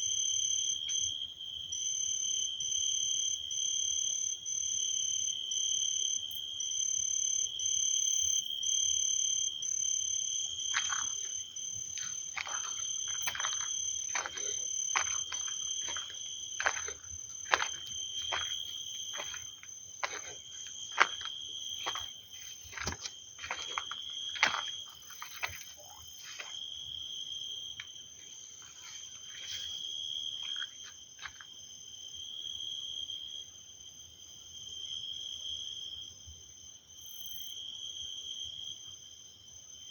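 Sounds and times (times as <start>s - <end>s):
insects chirring: 0.0s - 36.0s
chorus of frogs: 3.4s - 36.2s.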